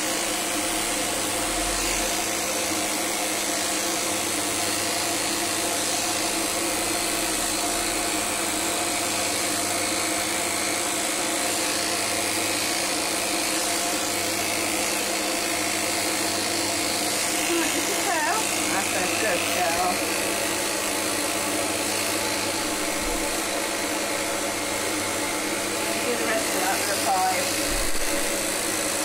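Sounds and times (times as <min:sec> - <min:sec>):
electric clippers whirring: 0:00.0 - 0:29.0.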